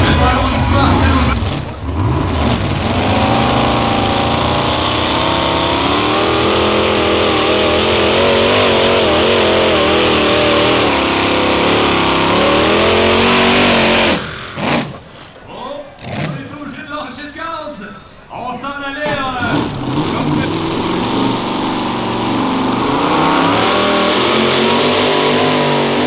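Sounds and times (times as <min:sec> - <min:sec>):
tractor engine at full throttle: 0:00.0 - 0:15.4, 0:19.4 - 0:26.0.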